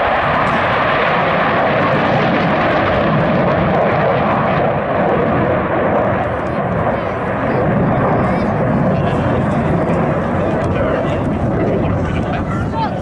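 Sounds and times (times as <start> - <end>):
jet fighters flying past: 0.0 - 13.0.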